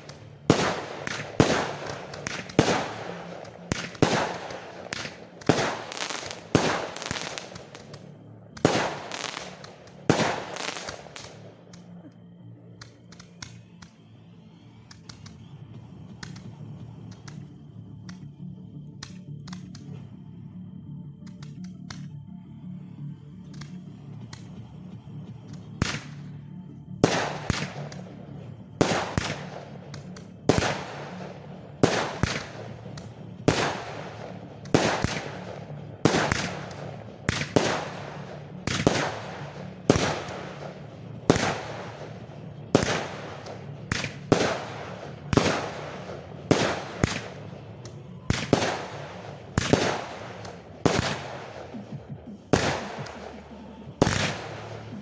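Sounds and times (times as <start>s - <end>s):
fireworks bursting with echo: 0.0s - 22.3s, 23.4s - 55.0s.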